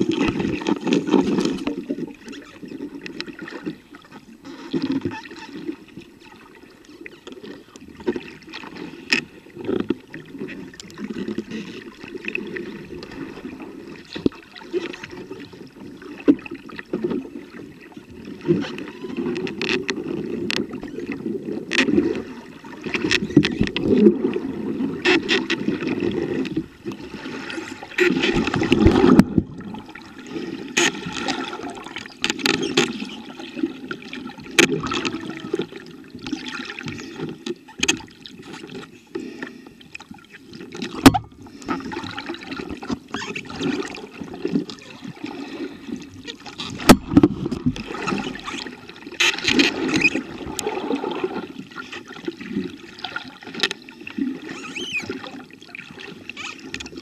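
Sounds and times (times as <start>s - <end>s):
underwater gurgling: 0.0s - 57.0s.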